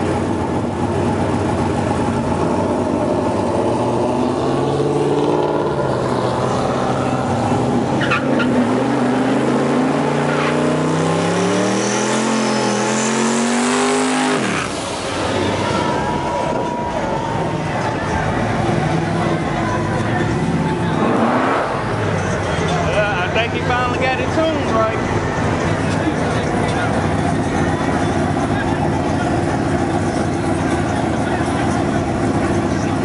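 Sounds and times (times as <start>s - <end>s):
car engine revving: 0.0s - 33.0s
tires spinning: 0.0s - 33.0s.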